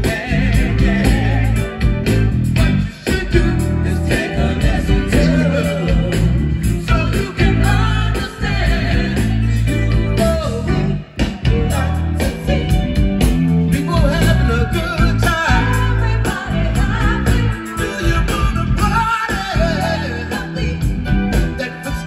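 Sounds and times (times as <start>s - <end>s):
live band playing dance music: 0.0s - 22.0s
person singing: 0.0s - 22.0s.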